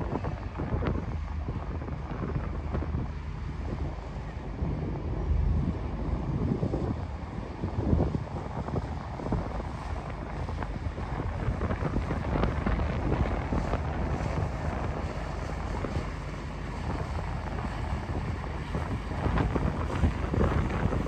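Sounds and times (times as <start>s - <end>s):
motor boats rumbling: 0.0s - 21.0s
wind buffeting microphone: 0.0s - 21.0s.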